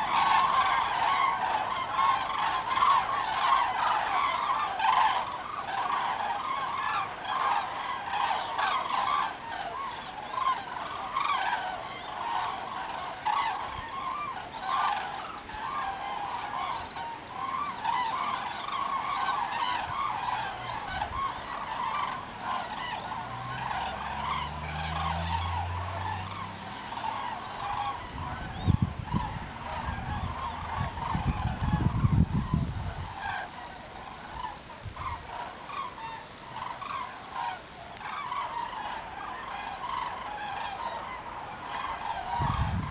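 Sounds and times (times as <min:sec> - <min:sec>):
cranes trumpeting calls: 0:00.0 - 0:42.9.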